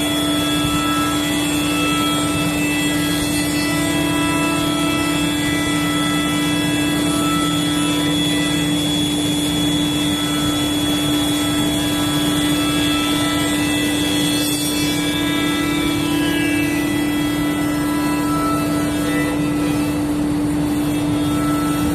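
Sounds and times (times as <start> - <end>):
router high whine: 0.0 - 21.9.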